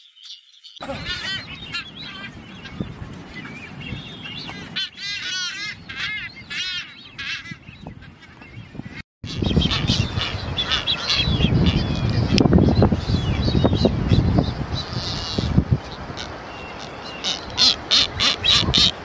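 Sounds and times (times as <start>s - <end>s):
seabirds calling: 0.8s - 19.0s.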